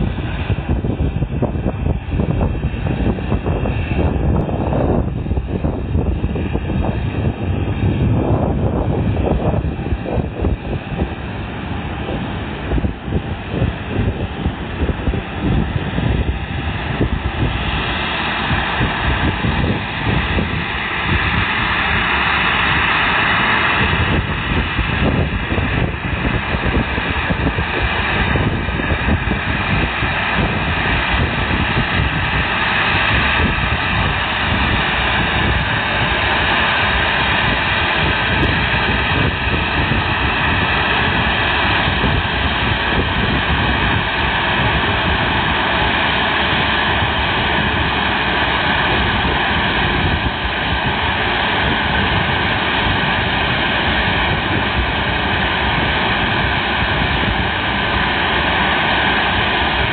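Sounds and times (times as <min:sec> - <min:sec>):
jet engines roaring: 0:00.0 - 0:59.9
wind buffeting microphone: 0:00.0 - 0:59.9.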